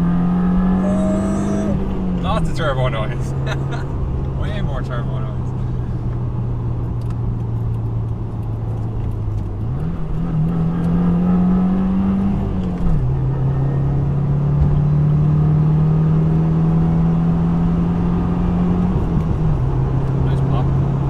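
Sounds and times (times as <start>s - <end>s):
car engine heard from cabin: 0.0s - 21.0s.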